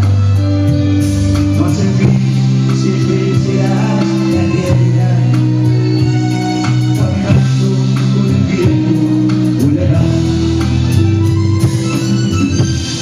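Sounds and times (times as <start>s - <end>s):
live band playing a ballad: 0.0s - 13.0s
man singing: 1.3s - 13.0s.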